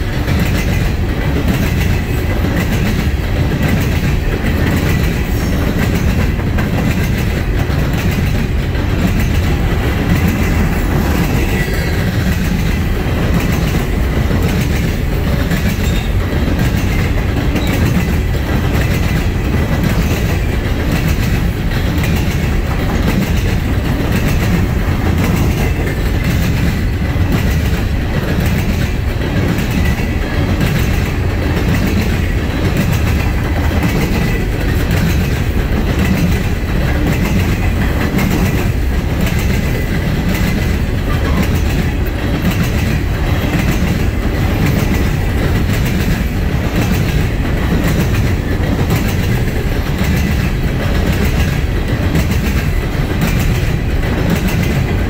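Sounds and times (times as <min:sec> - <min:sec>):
train cars rolling past: 0:00.0 - 0:55.0
wheels clacking over rail joints: 0:00.0 - 0:55.0.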